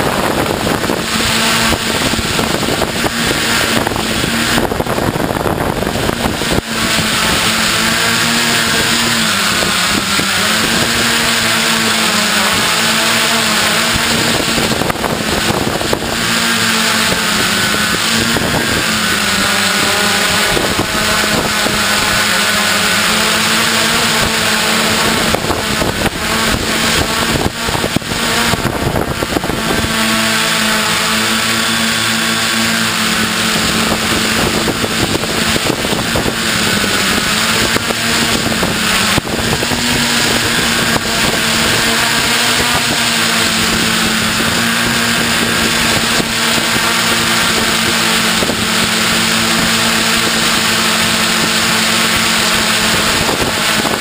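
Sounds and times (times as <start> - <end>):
crackling buffeting: 0.0 - 54.0
drone propellers buzzing whine: 0.0 - 54.0.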